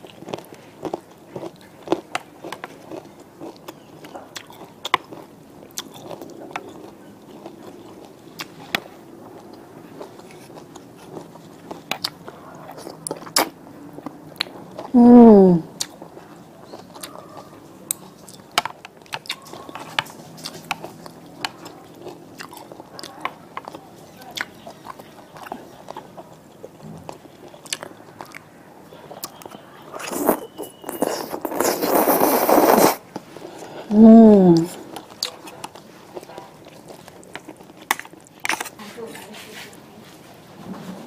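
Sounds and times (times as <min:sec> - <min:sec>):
person chewing noodles: 0:00.0 - 0:15.0, 0:15.7 - 0:38.7.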